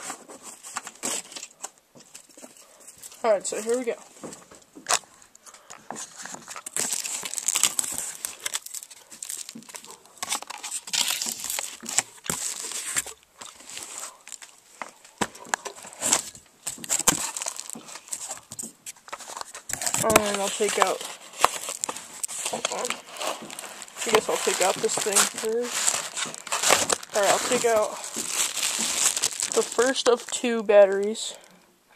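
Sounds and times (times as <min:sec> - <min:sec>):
cardboard packaging crinkling: 0:00.0 - 0:31.5.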